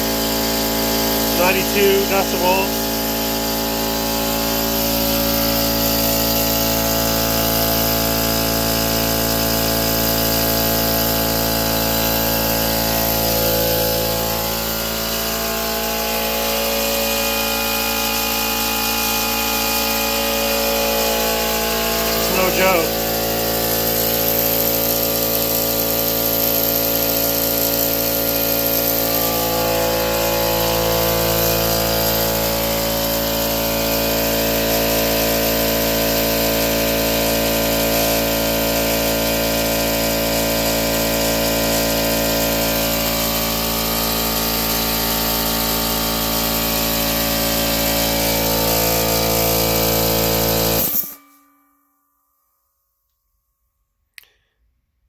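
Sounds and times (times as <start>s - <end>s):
air compressor running: 0.0s - 51.4s.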